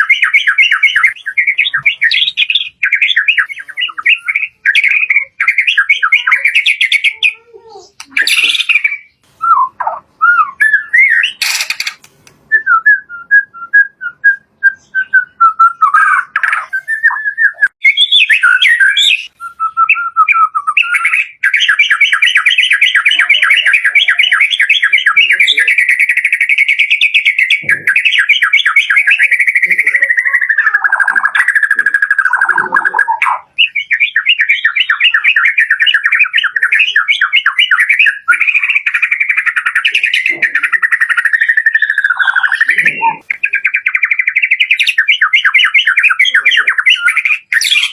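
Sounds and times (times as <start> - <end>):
songbird trills and whistles: 0.0 - 47.9.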